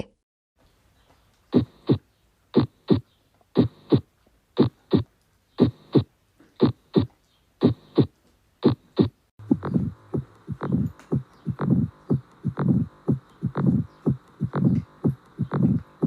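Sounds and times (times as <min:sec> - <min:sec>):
heartbeat lub-dub: 0:01.5 - 0:03.0, 0:03.6 - 0:16.0.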